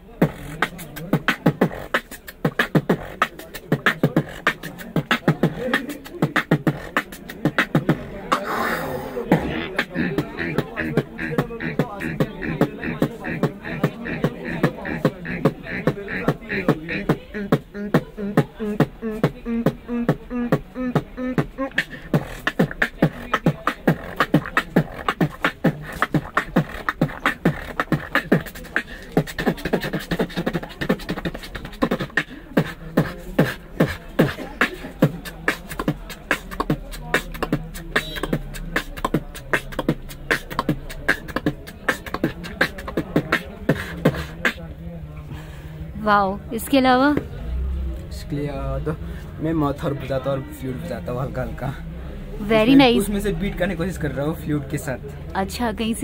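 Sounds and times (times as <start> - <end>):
beatboxing: 0.0 - 56.0.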